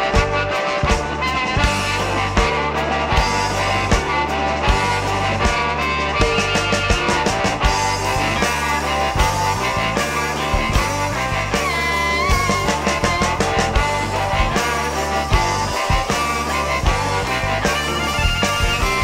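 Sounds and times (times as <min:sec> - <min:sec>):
blues-rock band playing: 0:00.0 - 0:19.0
steady drum beat: 0:00.0 - 0:19.0.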